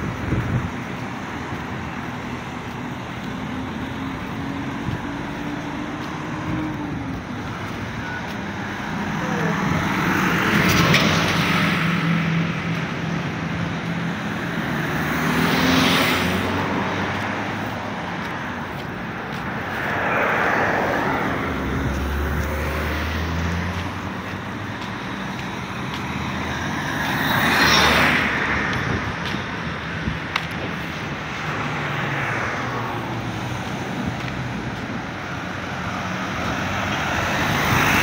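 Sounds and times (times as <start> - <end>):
cars passing: 0.0 - 38.0.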